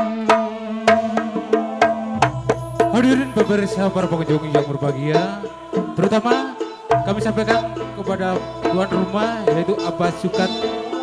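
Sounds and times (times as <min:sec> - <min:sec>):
hand drum strokes: 0:00.0 - 0:11.0
wavering sliding melody: 0:00.1 - 0:11.0.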